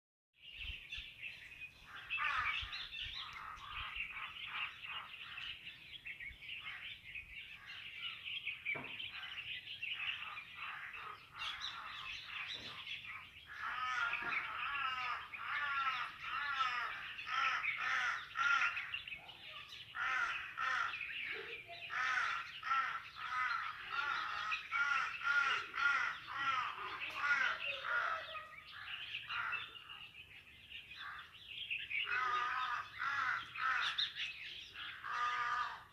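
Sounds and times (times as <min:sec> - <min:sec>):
birds chirping and calling: 0:00.4 - 0:35.9
harsh bird calls: 0:00.4 - 0:35.9.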